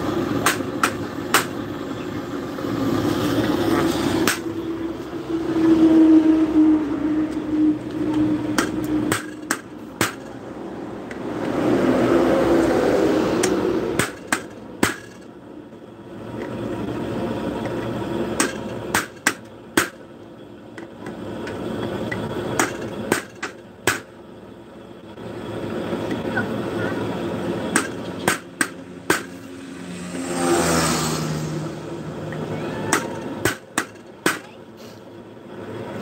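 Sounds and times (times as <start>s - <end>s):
steady background noise: 0.0s - 36.0s.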